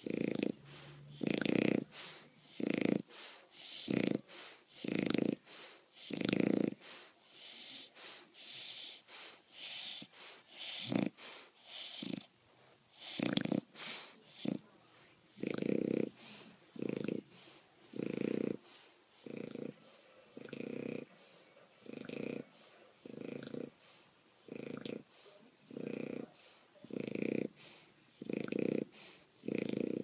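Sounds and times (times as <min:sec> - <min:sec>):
puppy snoring: 0:00.0 - 0:30.0
wheezy hissing breaths: 0:00.0 - 0:30.0.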